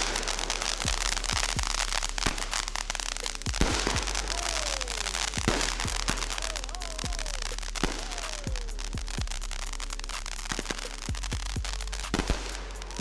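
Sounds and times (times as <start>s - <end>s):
deep fireworks booms: 0.0s - 13.0s
fireworks crackling: 0.0s - 13.0s.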